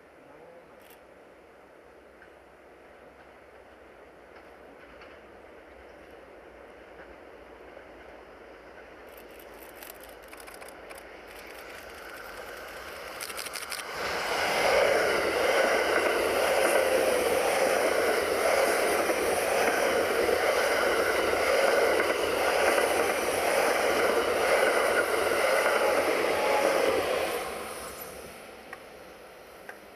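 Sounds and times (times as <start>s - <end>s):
train passing at speed: 1.2s - 29.9s.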